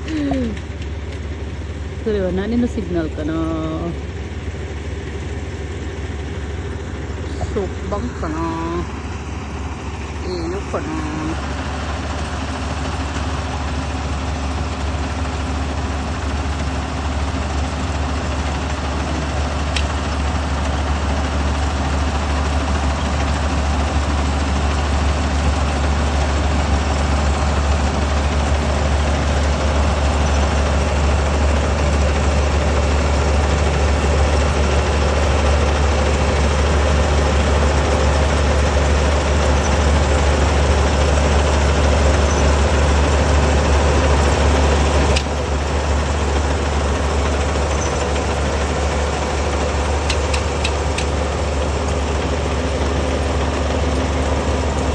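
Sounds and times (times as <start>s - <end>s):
combine harvester engine drone: 0.0s - 54.9s.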